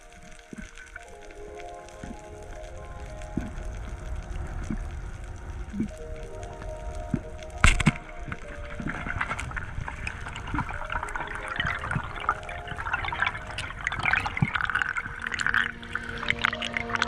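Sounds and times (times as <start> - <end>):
underwater clicks and crackles: 0.0 - 17.0
underwater water wash: 0.0 - 17.0.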